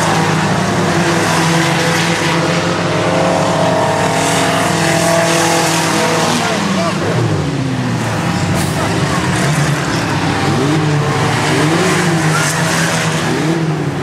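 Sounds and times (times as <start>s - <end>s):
race truck engines revving: 0.0s - 14.0s.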